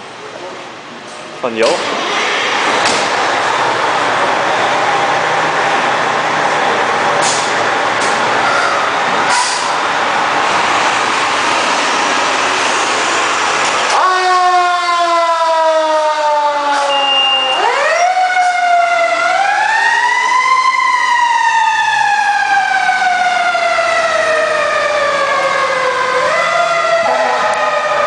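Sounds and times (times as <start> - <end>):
fire engine siren wailing: 3.2 - 28.0.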